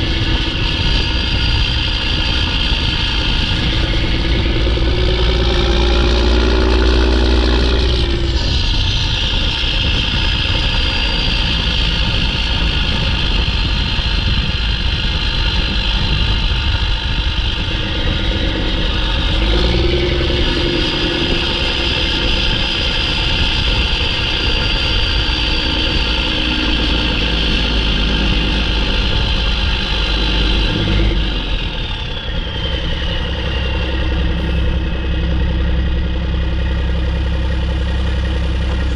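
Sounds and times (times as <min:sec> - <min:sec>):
diesel engine drone: 0:00.0 - 0:38.9
turbocharger whistle: 0:00.0 - 0:38.9.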